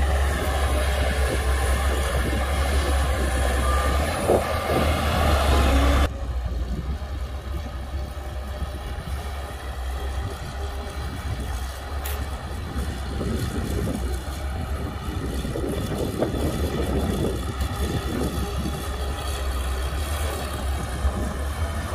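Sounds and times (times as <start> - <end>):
bulldozer diesel engine rumbling: 0.0 - 21.9.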